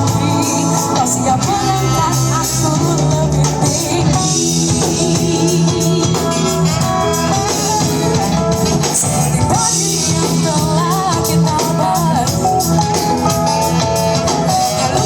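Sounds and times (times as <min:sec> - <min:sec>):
drum kit: 0:00.0 - 0:15.0
guitar: 0:00.0 - 0:15.0
person singing: 0:00.0 - 0:15.0.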